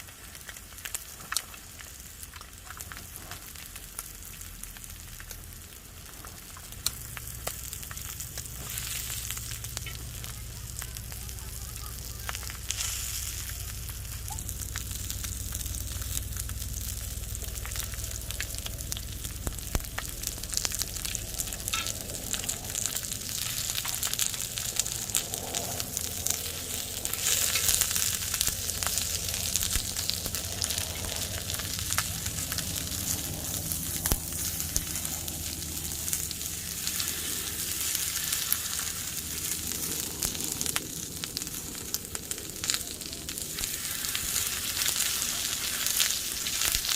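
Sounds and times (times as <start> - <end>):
food sizzling on a griddle: 0.0 - 46.9
hot fat popping: 0.0 - 46.9.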